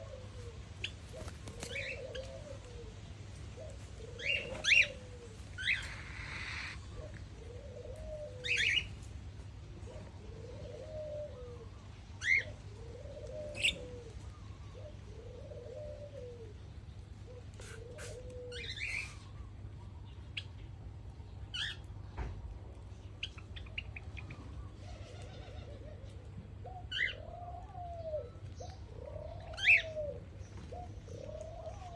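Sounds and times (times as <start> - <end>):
low cooing bird call: 0.0 - 9.1, 9.7 - 20.6, 23.0 - 31.9.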